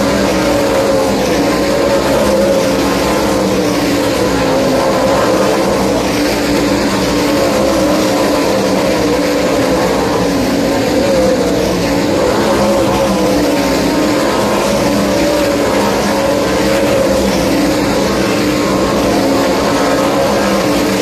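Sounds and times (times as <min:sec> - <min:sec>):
race car engines droning: 0:00.0 - 0:21.0.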